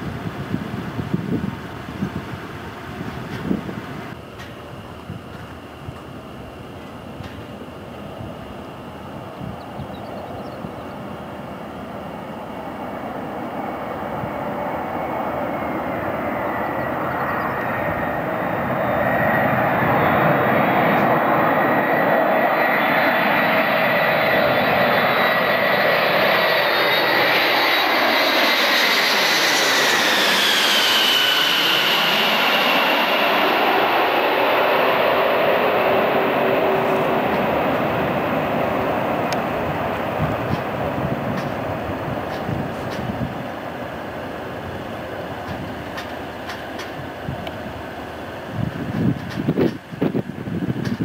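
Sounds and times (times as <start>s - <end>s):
high turbine whine: 0.0s - 51.0s
jet engines roaring overhead: 0.0s - 51.0s.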